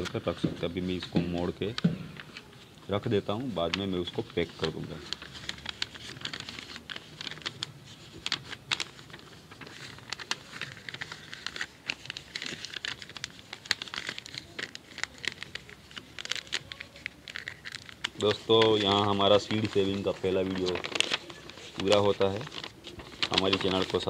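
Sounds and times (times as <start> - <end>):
paper being folded and creased: 0.0 - 24.0.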